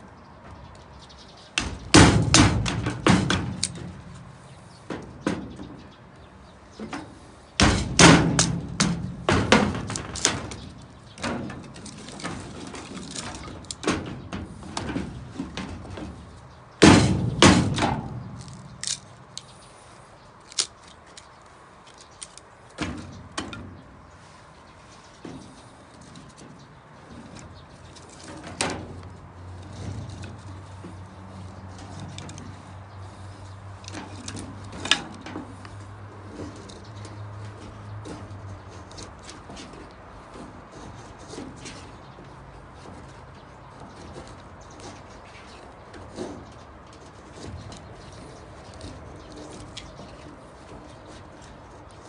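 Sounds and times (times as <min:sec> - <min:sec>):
heavy knocks and clatter: 0:01.5 - 0:06.0, 0:06.7 - 0:19.0, 0:25.1 - 0:52.0.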